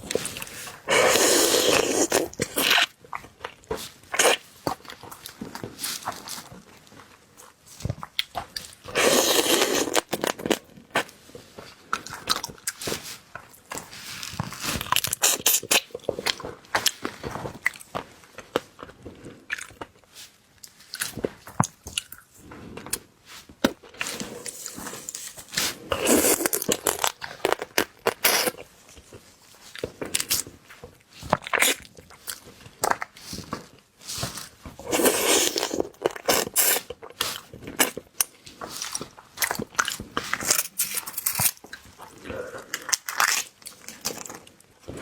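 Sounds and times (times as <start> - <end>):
person chewing crunchy food: 0.0 - 45.0.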